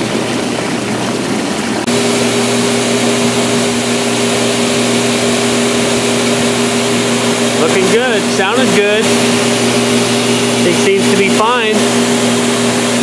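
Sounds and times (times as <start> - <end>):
spa motors droning: 0.0 - 13.0
water churning and bubbling: 0.0 - 13.0.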